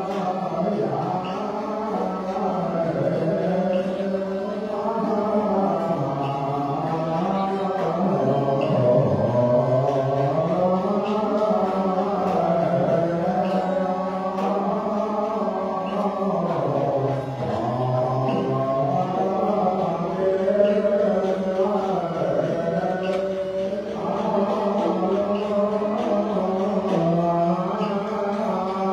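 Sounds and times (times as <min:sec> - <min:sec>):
monks chanting in unison: 0:00.0 - 0:28.9.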